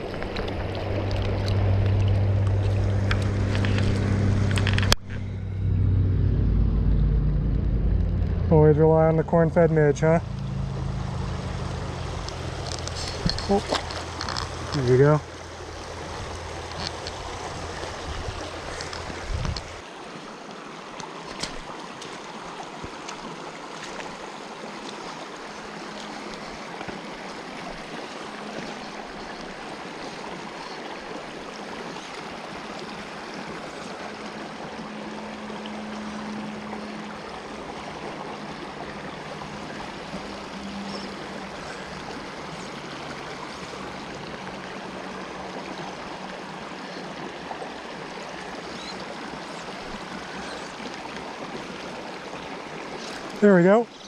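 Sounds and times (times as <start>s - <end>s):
creek rushing over rocks: 8.3s - 54.0s.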